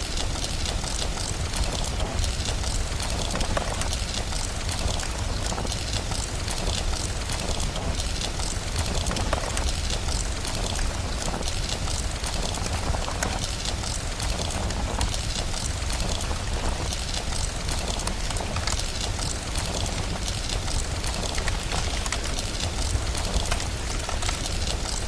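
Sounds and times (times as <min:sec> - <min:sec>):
constant low rumble: 0:00.0 - 0:25.0
fire crackling: 0:00.0 - 0:25.0
steady rain: 0:00.0 - 0:25.0.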